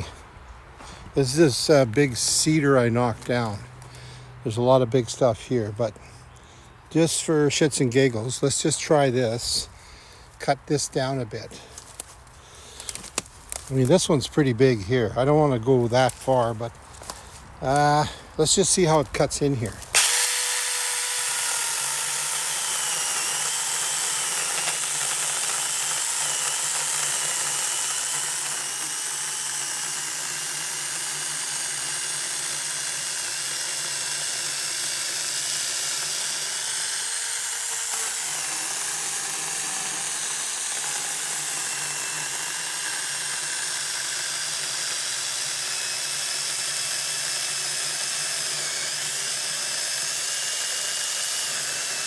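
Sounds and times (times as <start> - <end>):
electric chainsaw cutting log: 1.2 - 6.0, 6.9 - 52.0.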